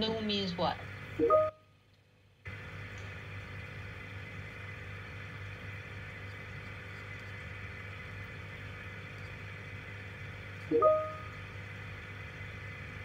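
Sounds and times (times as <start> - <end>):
low electrical hum with hiss: 0.0 - 13.0.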